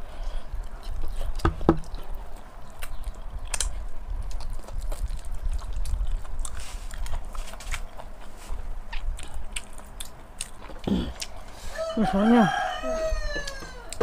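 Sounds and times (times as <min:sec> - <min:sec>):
close chewing with clicks: 0:00.3 - 0:11.6.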